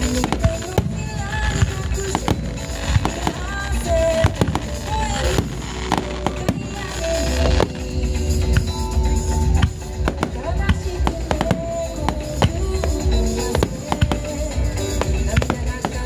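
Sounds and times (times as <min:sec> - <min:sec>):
fireworks shells bursting: 0:00.0 - 0:16.0
music playing: 0:00.0 - 0:16.0.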